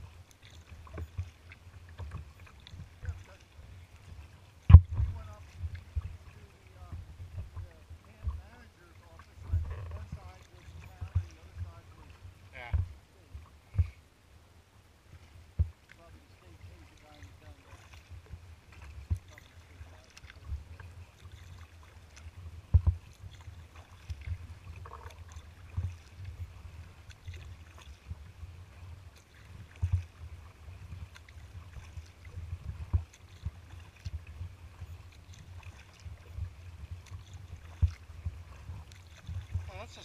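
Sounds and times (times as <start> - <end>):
water knocking against kayak hull: 0.0 - 13.0, 15.5 - 16.1, 16.8 - 28.3, 29.1 - 40.0.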